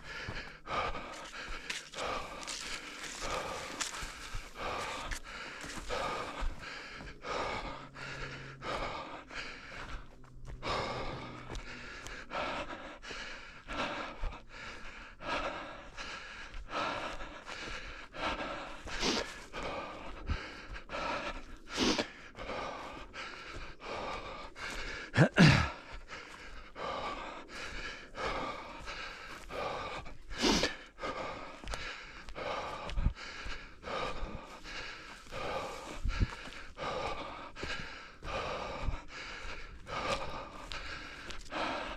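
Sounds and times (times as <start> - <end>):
runner panting: 0.0 - 41.9.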